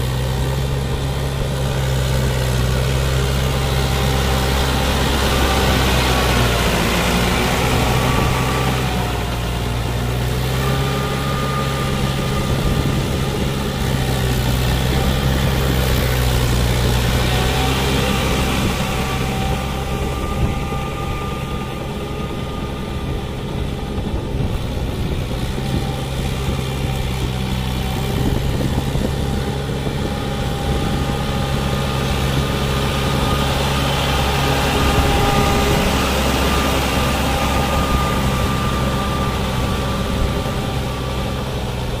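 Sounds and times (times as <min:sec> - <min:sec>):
steady whine: 0:00.0 - 0:42.0
tractor diesel engine under load: 0:00.0 - 0:42.0.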